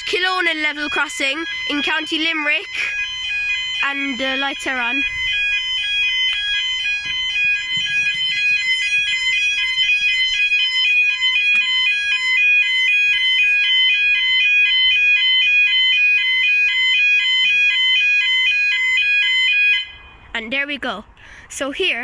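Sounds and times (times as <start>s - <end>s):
level crossing alarm warbling: 0.0s - 21.0s.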